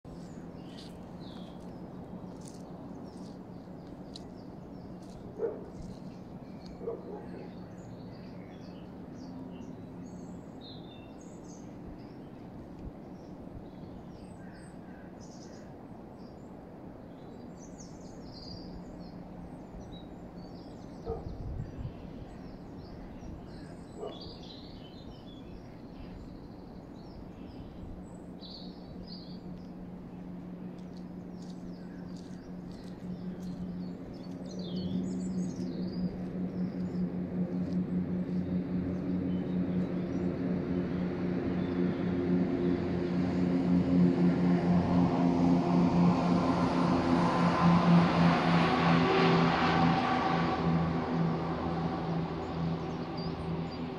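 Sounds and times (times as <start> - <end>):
small birds chirping: 0.1 - 45.0
steady low hum: 0.1 - 53.9.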